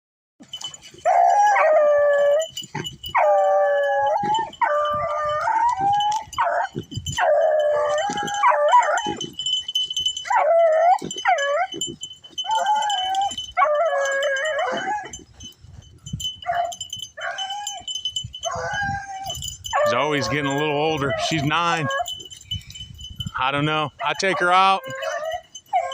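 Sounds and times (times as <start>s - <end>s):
hounds baying: 0.4s - 25.9s.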